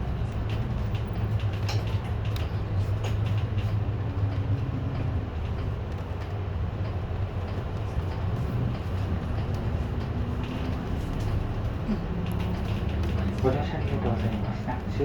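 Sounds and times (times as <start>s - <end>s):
bus engine running low: 0.0s - 15.0s
light clicks and rattles: 0.0s - 15.0s.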